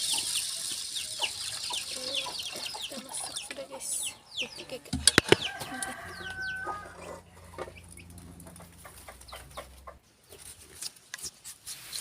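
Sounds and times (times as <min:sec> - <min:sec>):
chickens clucking: 0:00.0 - 0:10.8.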